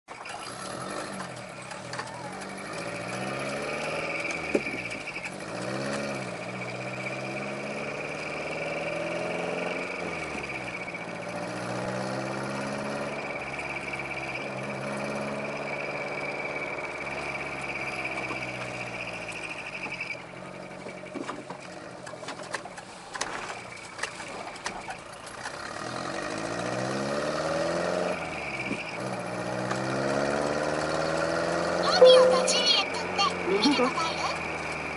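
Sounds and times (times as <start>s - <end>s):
truck engine revving: 0.1s - 23.7s, 24.9s - 34.9s.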